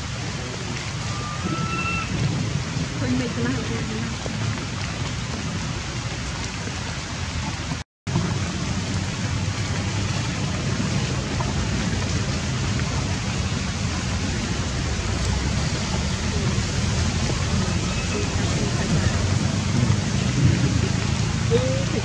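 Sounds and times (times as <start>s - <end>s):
low rumble: 0.0s - 22.0s
rain falling through foliage: 0.0s - 22.0s.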